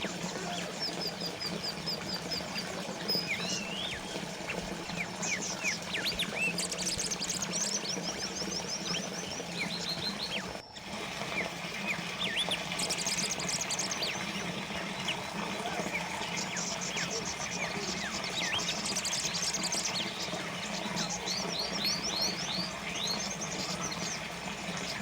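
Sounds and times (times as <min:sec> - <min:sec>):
fountain water trickling: 0:00.0 - 0:25.0
small birds chirping: 0:00.0 - 0:25.0.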